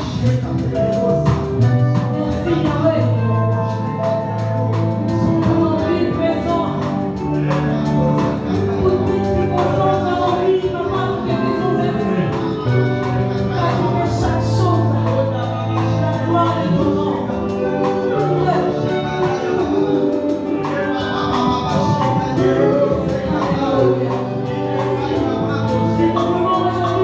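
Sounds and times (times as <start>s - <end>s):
electric guitar: 0.0s - 27.0s
people singing into microphones: 0.0s - 27.0s
percussion beat: 0.0s - 27.0s.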